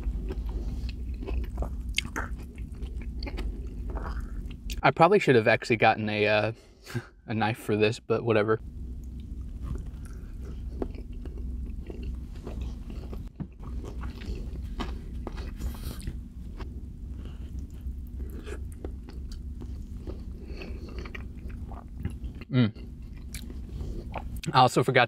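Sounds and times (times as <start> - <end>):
chewing and biting food: 0.0 - 4.8, 9.0 - 24.5
steady low hum: 0.0 - 25.0.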